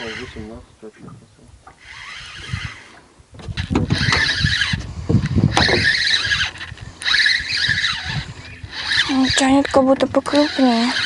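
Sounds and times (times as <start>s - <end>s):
spinning reel whirring: 0.0s - 0.6s, 1.6s - 11.0s.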